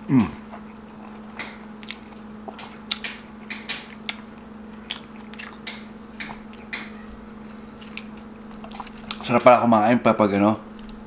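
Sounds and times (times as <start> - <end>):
steady low hum: 0.0 - 11.0
wet chewing and lip smacking: 0.5 - 9.4.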